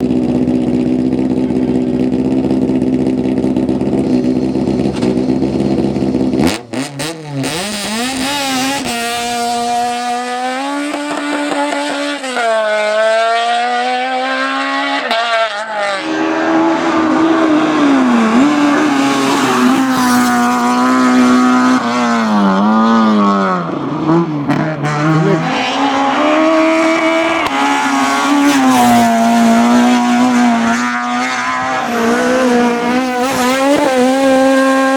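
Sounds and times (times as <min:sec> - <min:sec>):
race car engine revving: 0:00.0 - 0:34.9.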